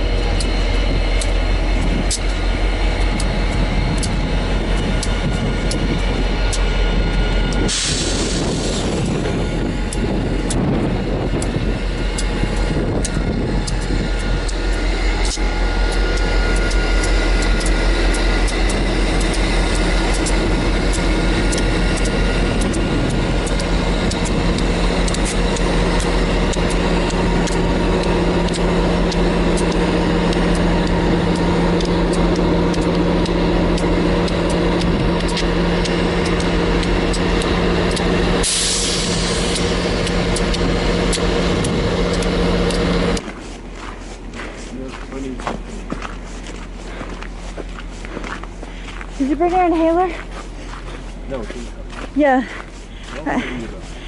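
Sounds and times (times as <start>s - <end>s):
low hum: 0.0s - 54.0s
vehicle running noise: 0.0s - 54.0s.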